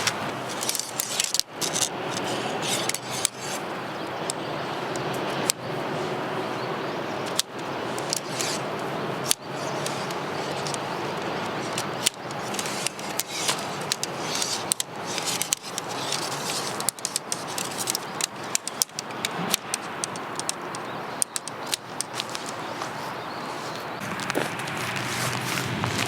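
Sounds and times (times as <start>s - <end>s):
irregular clicks and light knocks: 0.0s - 5.8s, 6.8s - 23.0s
steady rain hiss: 0.0s - 26.0s.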